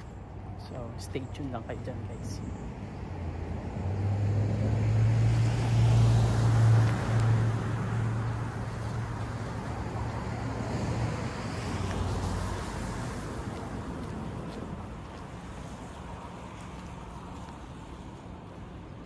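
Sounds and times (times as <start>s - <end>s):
road noise: 0.0s - 19.0s
vehicle engine hum: 0.0s - 19.0s.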